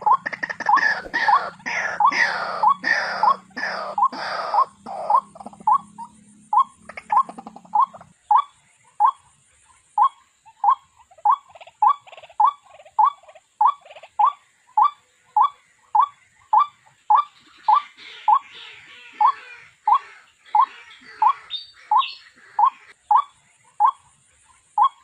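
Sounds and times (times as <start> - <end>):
waterhen calling: 0.0 - 9.3, 10.0 - 25.0.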